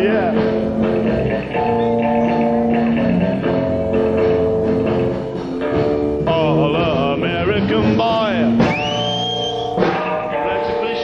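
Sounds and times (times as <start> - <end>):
electric guitar bent notes: 0.0 - 11.0
live rock band: 0.0 - 11.0.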